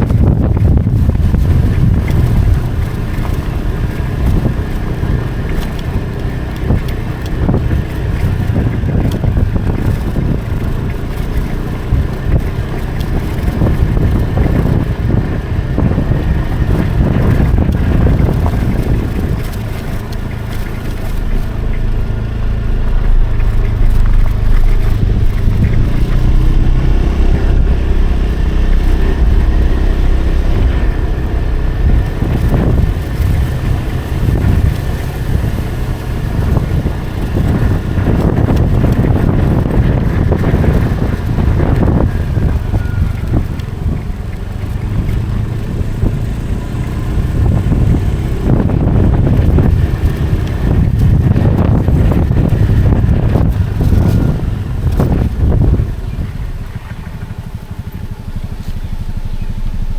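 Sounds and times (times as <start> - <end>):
motorcycle engine running: 0.0 - 59.9
wind rumbling over microphone: 0.0 - 59.9.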